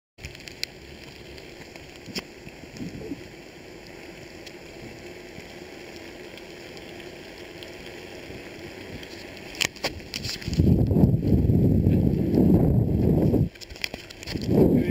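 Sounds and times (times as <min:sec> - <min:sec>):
rain falling: 0:00.2 - 0:14.9.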